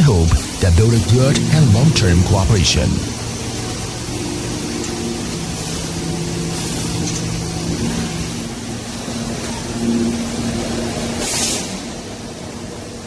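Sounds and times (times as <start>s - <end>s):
machinery hiss and hum: 0.0s - 13.0s.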